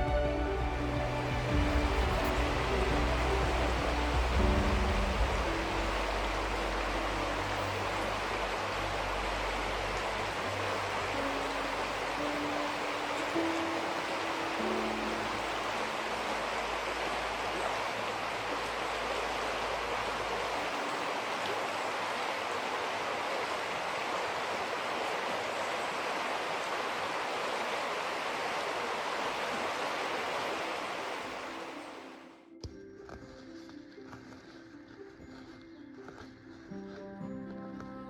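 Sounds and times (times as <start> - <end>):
river water rushing: 0.0 - 32.4.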